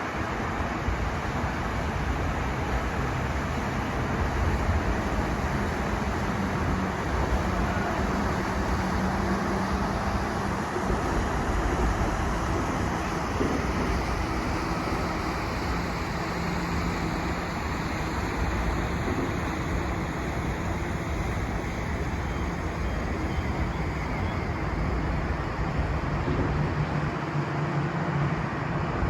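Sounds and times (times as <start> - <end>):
faint low engine hum: 0.0 - 29.0.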